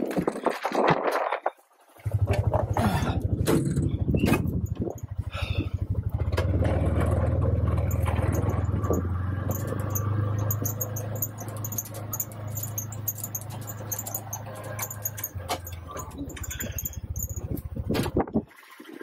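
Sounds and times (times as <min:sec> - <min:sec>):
vehicle engine drone: 0:01.8 - 0:19.0.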